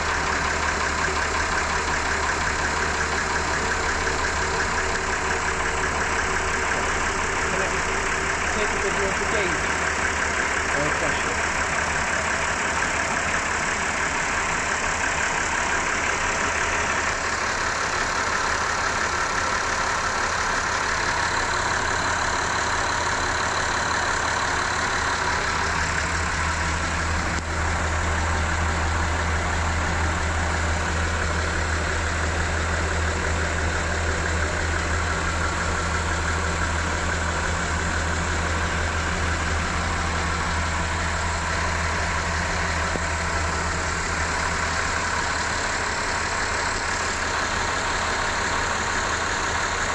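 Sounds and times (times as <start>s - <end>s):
boat engines idling: 0.0s - 49.9s.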